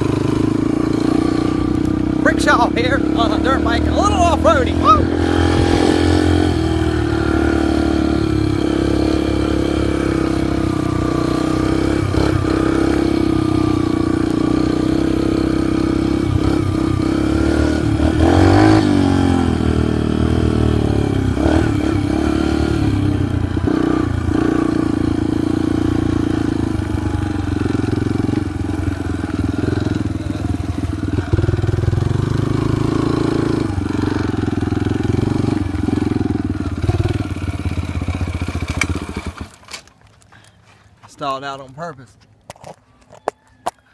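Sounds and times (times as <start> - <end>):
dirt bike engine running: 0.0 - 40.2.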